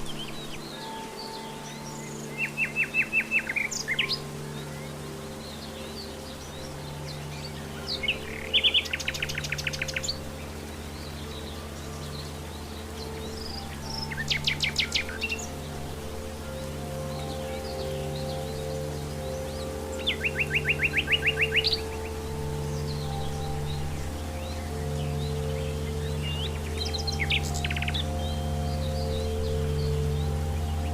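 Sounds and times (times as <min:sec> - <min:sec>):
birds chirping faintly: 0:00.0 - 0:30.9
nightingale singing: 0:00.0 - 0:30.9.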